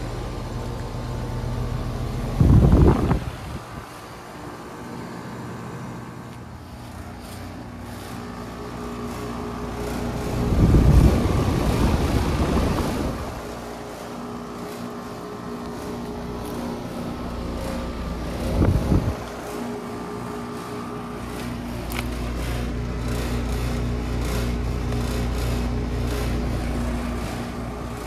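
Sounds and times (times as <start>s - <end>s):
compressor hum: 0.0s - 28.0s
condenser fan rushing: 0.0s - 28.0s.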